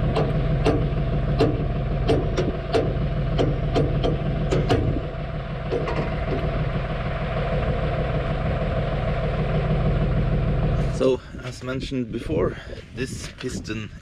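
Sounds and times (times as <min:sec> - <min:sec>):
tractor diesel engine idling: 0:00.0 - 0:13.9.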